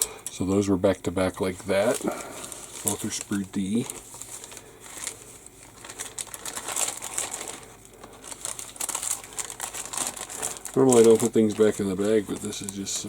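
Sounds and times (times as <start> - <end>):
plastic bag crinkling: 1.2 - 13.0.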